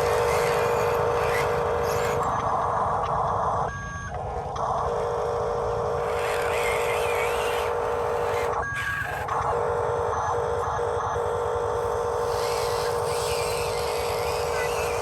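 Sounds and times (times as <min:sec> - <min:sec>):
electric motors and gears whining: 0:00.0 - 0:15.0.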